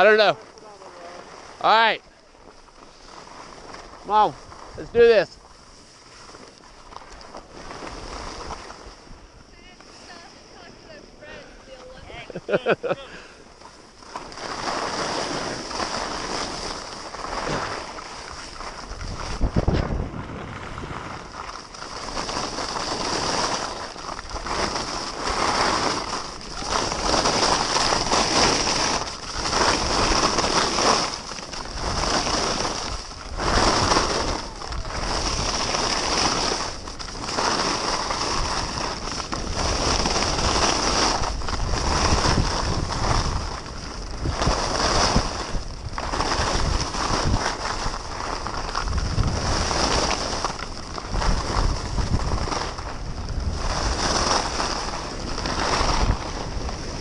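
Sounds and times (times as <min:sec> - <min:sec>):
skis scraping over snow: 0:00.0 - 0:57.0
wind rushing over microphone: 0:07.2 - 0:57.0.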